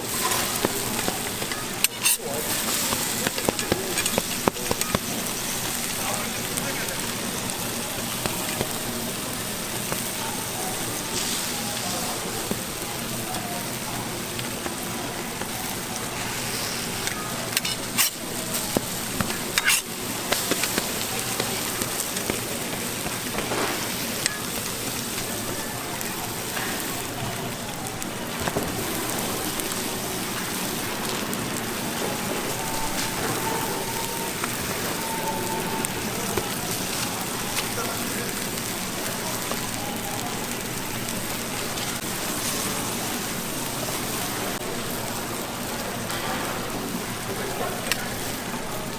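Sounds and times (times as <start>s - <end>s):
food sizzling on griddle: 0.0s - 48.9s.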